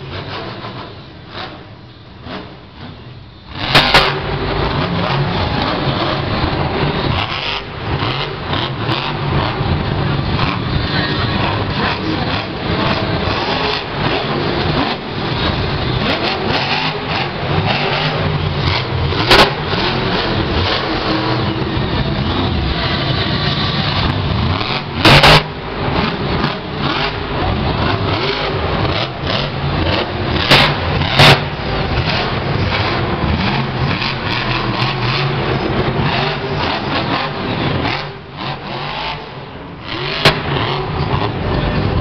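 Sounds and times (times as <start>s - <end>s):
monster truck engine revving: 0.0s - 42.0s.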